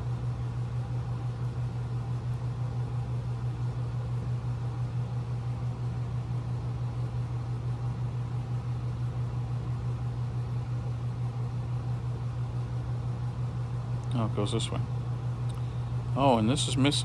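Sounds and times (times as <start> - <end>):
fan humming with rushing air: 0.0 - 17.0.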